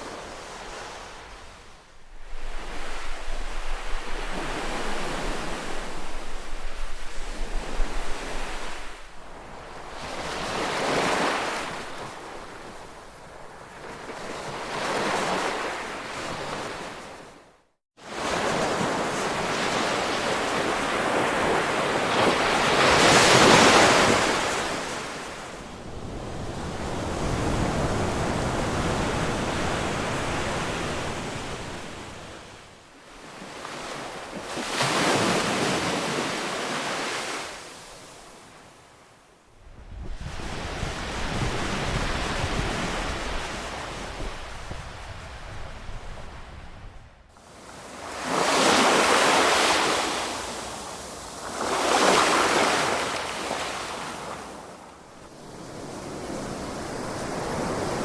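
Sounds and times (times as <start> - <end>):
ocean waves washing onto shore: 0.0 - 17.4, 18.0 - 39.2, 39.9 - 58.0.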